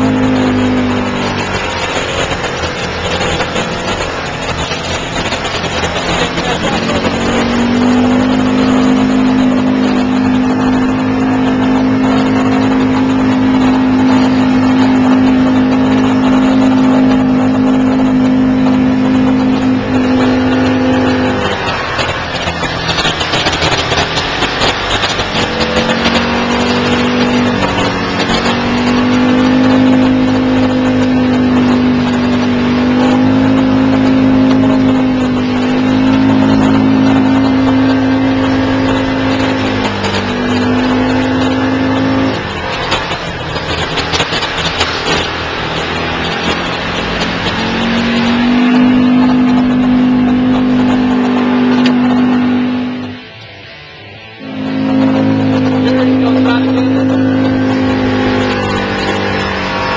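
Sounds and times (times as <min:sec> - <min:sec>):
water splashing: 0:00.0 - 0:53.4, 0:54.4 - 0:59.9
vehicle engine at high revs: 0:00.0 - 0:59.9.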